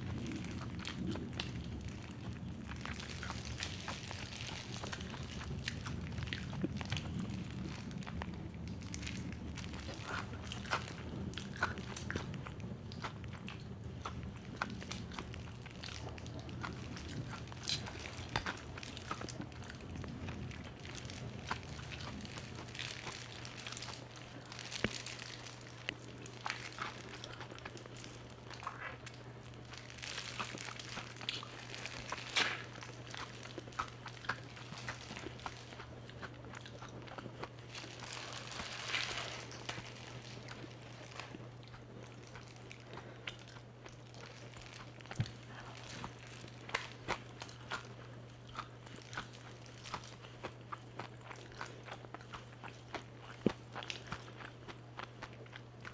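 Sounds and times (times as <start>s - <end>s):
crispy chicken crunching: 0.0s - 55.9s.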